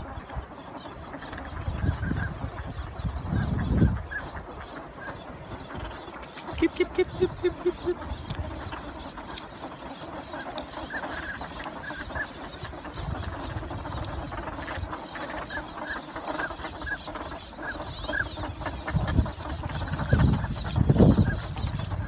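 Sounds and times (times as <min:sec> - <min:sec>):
ducks calling: 0:00.0 - 0:22.0
water noise: 0:00.0 - 0:22.0.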